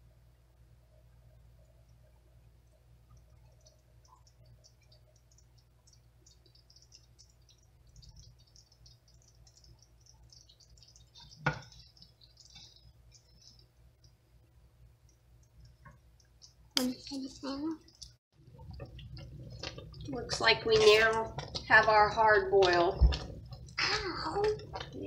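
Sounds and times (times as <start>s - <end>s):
preserves crackling and popping: 1.6s - 25.0s.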